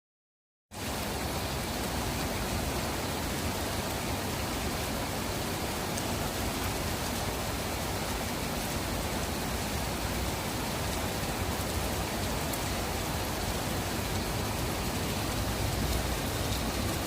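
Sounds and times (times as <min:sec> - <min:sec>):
steady rain hiss: 0:00.7 - 0:17.0.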